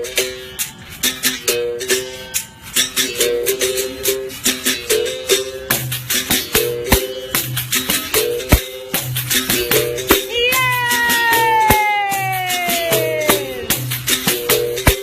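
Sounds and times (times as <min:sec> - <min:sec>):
plucked-string figures: 0:00.0 - 0:15.0
shaker rattling: 0:00.0 - 0:15.0.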